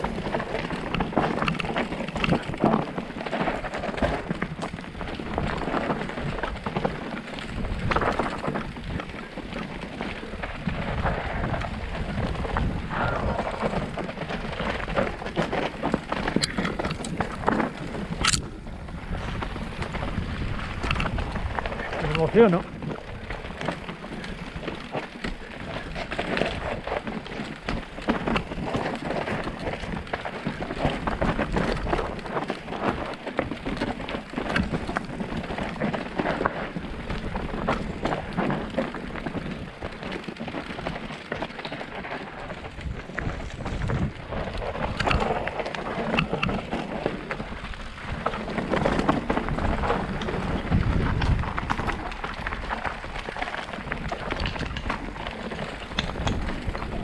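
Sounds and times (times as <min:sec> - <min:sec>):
bike clattering: 0:00.0 - 0:57.0
tyres crunching over stones: 0:00.0 - 0:57.0
wind rumble on microphone: 0:00.0 - 0:57.0.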